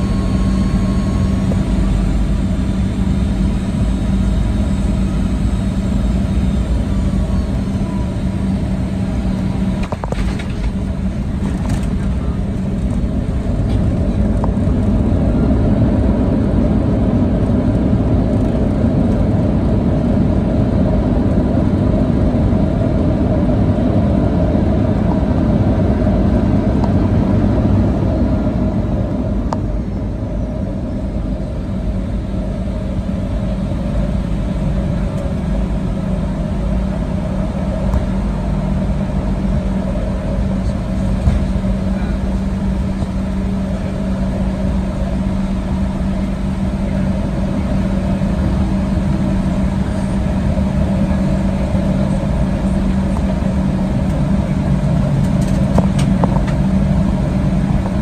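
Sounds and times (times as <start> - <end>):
jet engine roar in cabin: 0.0 - 58.0
low hum: 0.0 - 58.0.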